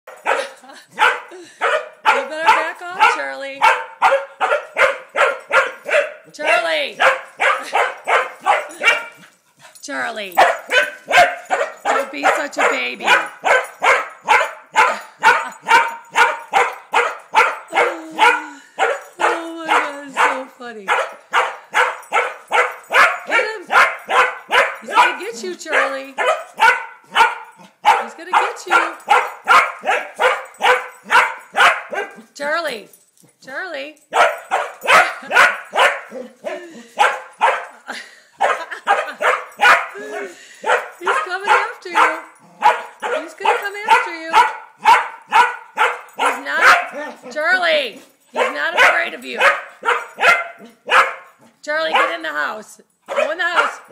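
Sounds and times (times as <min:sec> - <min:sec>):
dog barking and yelping: 0:00.1 - 0:09.6, 0:10.4 - 0:32.4, 0:34.1 - 0:52.4, 0:53.0 - 0:53.9.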